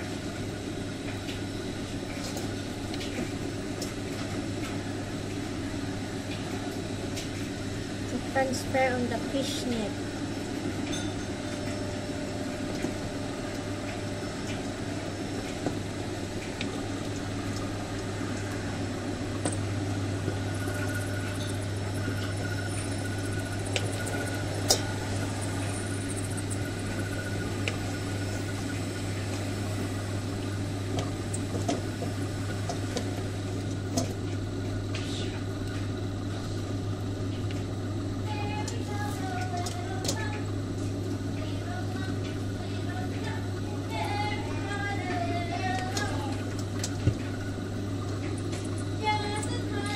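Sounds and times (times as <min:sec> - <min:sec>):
kitchen appliance humming: 0:00.0 - 0:49.9.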